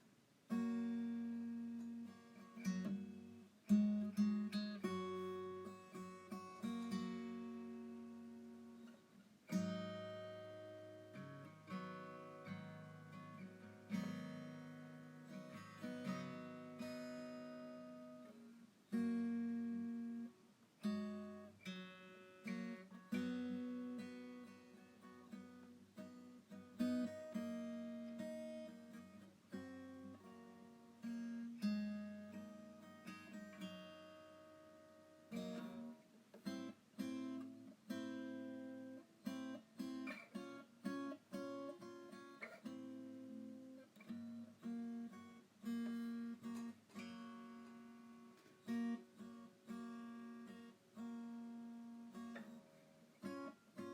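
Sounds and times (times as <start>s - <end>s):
gentle acoustic guitar: 0.0s - 53.9s.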